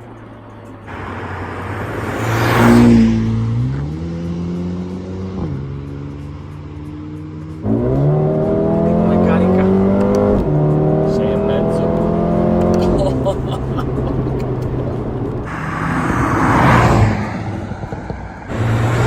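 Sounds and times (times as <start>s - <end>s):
car engine accelerating hard: 0.8s - 19.0s.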